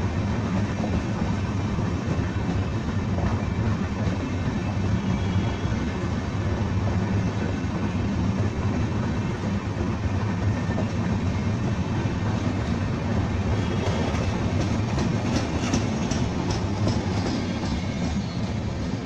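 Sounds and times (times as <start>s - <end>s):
clickety-clack of rail joints: 0.0s - 19.0s
train wheels rumbling: 0.0s - 19.0s.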